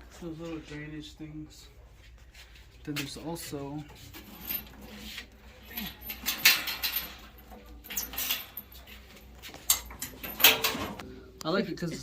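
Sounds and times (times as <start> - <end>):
rustling and clattering of items: 0.0 - 11.1.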